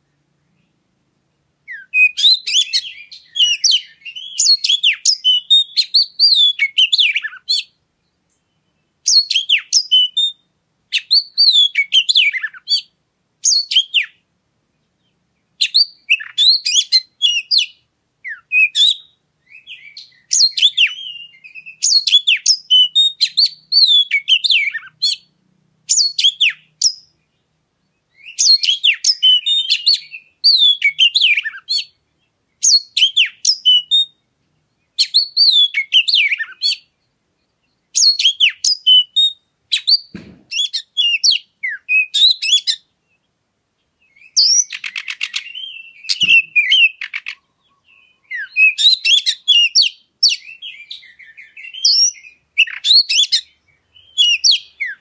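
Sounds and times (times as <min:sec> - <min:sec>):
bird singing whistled phrases: 0:01.7 - 0:07.8, 0:08.4 - 0:14.2, 0:15.6 - 0:25.3, 0:25.9 - 0:27.2, 0:28.1 - 0:32.0, 0:32.6 - 0:34.2, 0:34.9 - 0:37.0, 0:37.6 - 0:43.3, 0:44.0 - 0:55.0.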